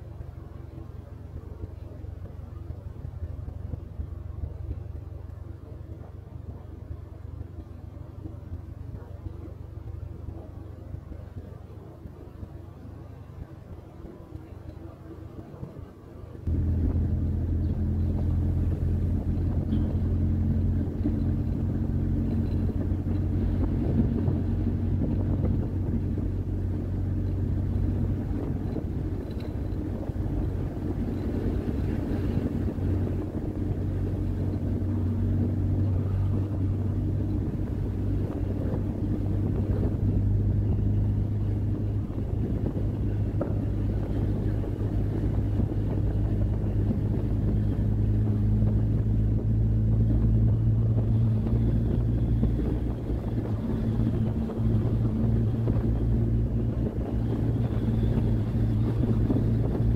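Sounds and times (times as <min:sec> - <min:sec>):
car engine cruising: 0:00.0 - 0:59.9
wind noise: 0:00.0 - 0:59.9.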